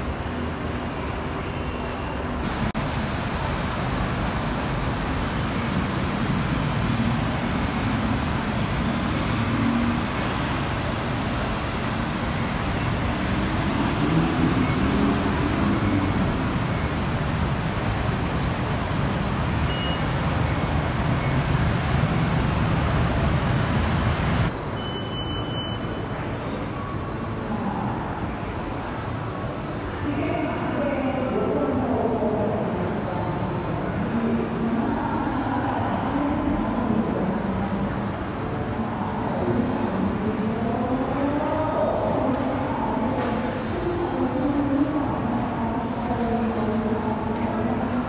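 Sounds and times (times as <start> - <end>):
busy road traffic rumble: 0.0 - 48.0.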